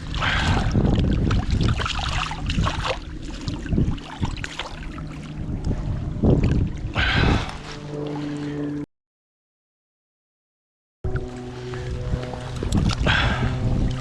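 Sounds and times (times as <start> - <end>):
water sounds: 0.0 - 8.8, 11.0 - 14.0
wind buffeting microphone: 0.0 - 8.8, 11.1 - 14.0.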